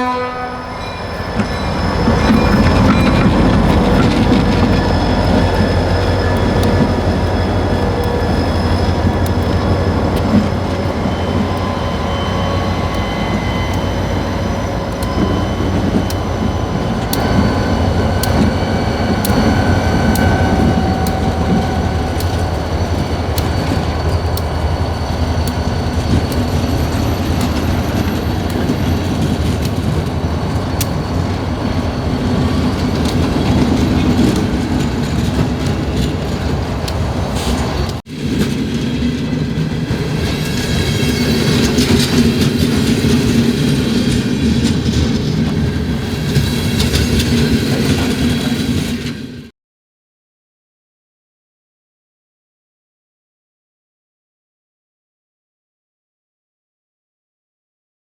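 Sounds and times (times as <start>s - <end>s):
high wheel squeals: 0.0s - 49.5s
train wheels clicking on rail joints: 0.0s - 49.5s.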